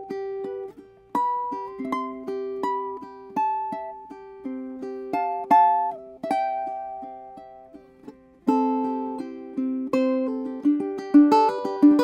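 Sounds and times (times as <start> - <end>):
fingerpicked ukulele melody: 0.0 - 12.0.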